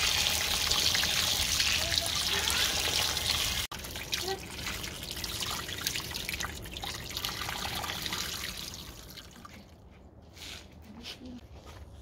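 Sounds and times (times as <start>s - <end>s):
water trickling and splashing: 0.0s - 9.9s.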